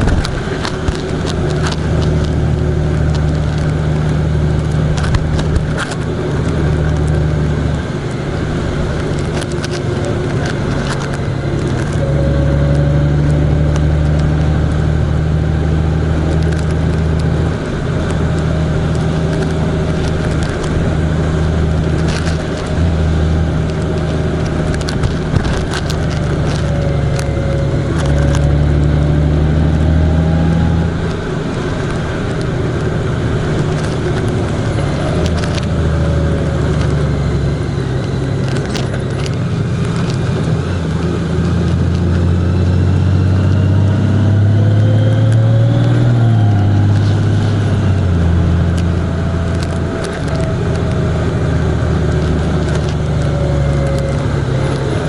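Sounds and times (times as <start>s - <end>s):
road noise: 0.0s - 55.0s
vehicle engine droning: 0.0s - 55.0s.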